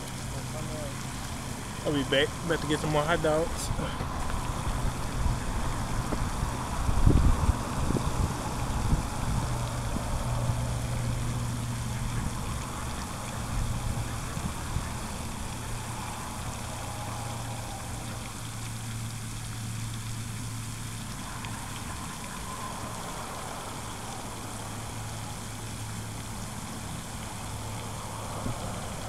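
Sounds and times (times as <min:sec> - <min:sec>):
even hiss: 0:00.0 - 0:29.0.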